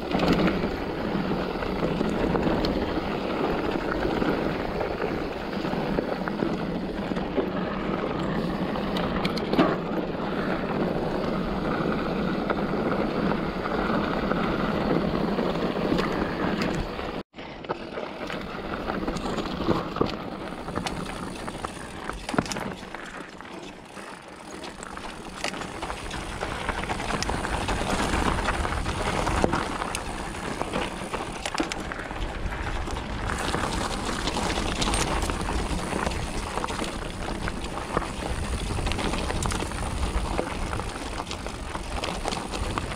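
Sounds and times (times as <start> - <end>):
bike rattling and knocking: 0.0 - 42.9
bike tyres on dirt: 0.0 - 42.9.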